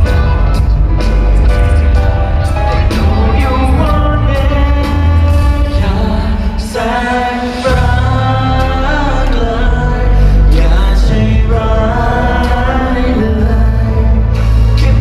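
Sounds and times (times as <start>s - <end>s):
heavy bass: 0.0s - 15.0s
live band playing pop: 0.0s - 15.0s
singer holding long notes: 2.5s - 15.0s.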